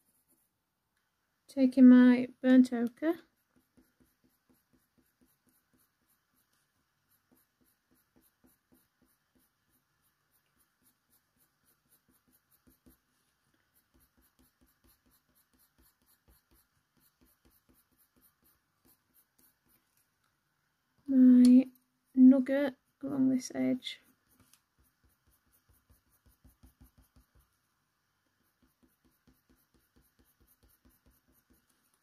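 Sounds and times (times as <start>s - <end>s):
coloured pencil scratching paper: 0.0s - 0.5s, 2.8s - 20.0s, 23.7s - 32.0s.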